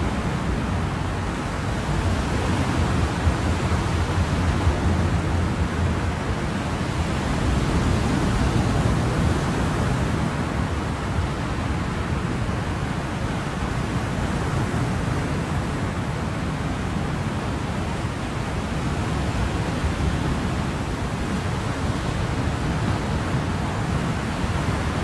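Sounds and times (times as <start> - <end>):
ocean waves and surf: 0.0 - 25.0.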